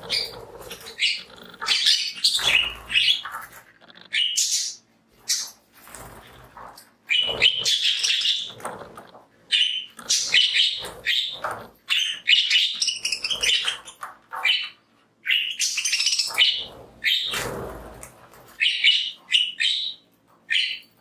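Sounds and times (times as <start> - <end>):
budgies chirping and warbling: 0.0 - 21.0.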